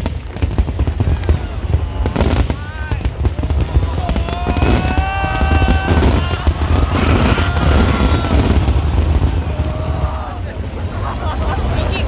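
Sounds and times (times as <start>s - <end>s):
fireworks popping and crackling: 0.0s - 12.0s.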